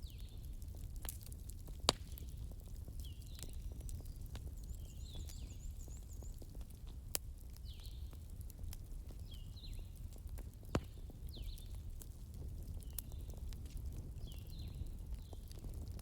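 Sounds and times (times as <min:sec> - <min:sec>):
wood fire crackling: 0:00.0 - 0:16.0
sharp pops of fire: 0:00.2 - 0:05.6, 0:06.2 - 0:16.0.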